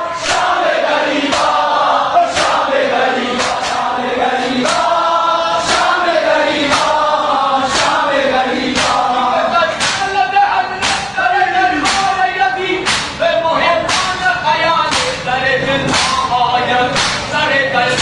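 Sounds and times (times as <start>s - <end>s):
men chanting in unison: 0.0s - 18.0s
sharp rhythmic slaps: 0.0s - 18.0s.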